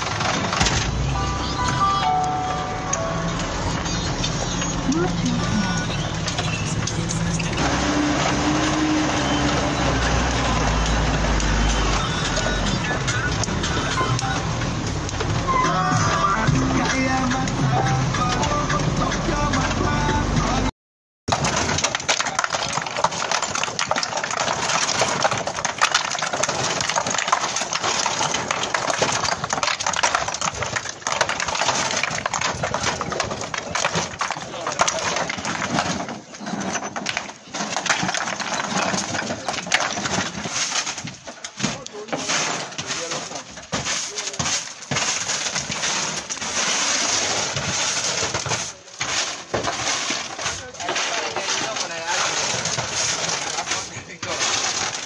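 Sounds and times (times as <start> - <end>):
stone blocks clattering: 0.0 - 19.9, 21.3 - 55.0.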